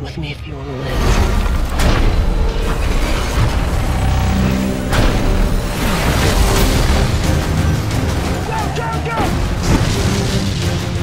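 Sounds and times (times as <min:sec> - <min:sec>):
dramatic orchestral score: 0:00.0 - 0:11.0
crashing and explosions: 0:00.8 - 0:11.0.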